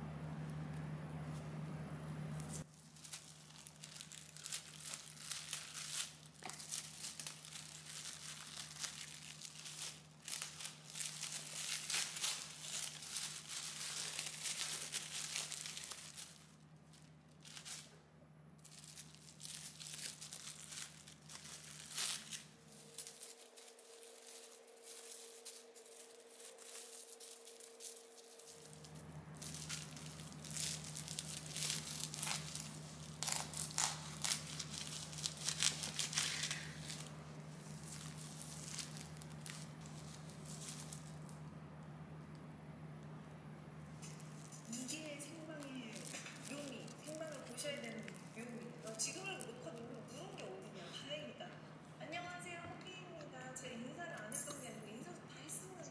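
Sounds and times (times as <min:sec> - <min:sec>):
low steady hum: 0:00.0 - 0:55.9
packaging crinkling and rustling: 0:02.4 - 0:18.0, 0:18.6 - 0:41.5, 0:43.9 - 0:50.9.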